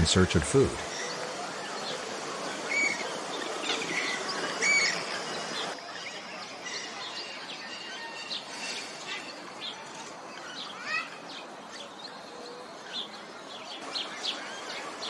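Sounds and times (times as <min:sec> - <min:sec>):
birds chirping: 0:00.0 - 0:15.0
steady outdoor hiss: 0:00.0 - 0:15.0.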